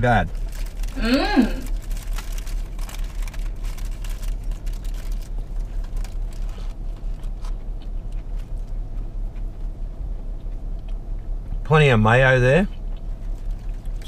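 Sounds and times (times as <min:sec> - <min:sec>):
chewing and wrapper rustles: 0:00.0 - 0:11.6, 0:12.6 - 0:14.0
car idling rumble: 0:00.0 - 0:14.0.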